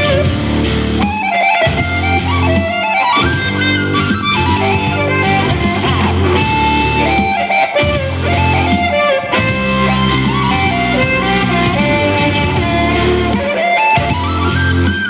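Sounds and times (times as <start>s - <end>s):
bluesy harmonica: 0.0s - 15.0s
guitar backing: 0.0s - 15.0s.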